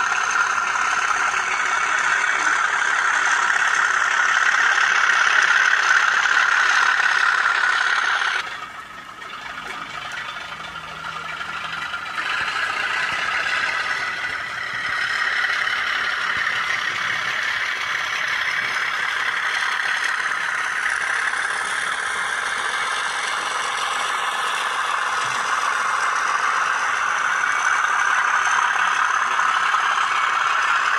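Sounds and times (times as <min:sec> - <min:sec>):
model train rattling on track: 0:00.0 - 0:30.9.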